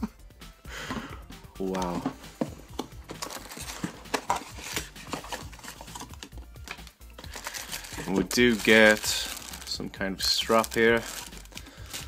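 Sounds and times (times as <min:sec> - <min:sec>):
hands handling plastic headset: 0:00.8 - 0:12.0.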